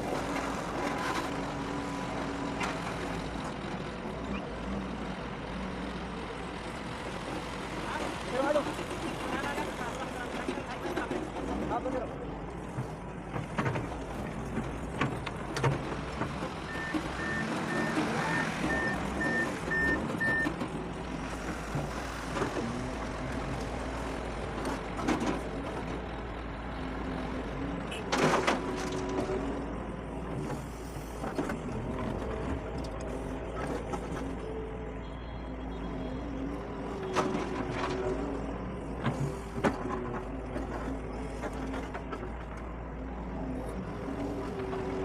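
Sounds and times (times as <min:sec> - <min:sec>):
excavator engine running: 0:00.0 - 0:45.0.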